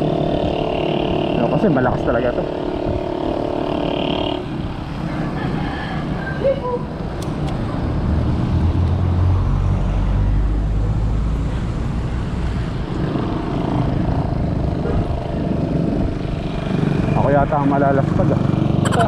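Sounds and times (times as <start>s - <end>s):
low road rumble: 0.0s - 19.0s
wind rushing over microphone: 0.0s - 19.0s.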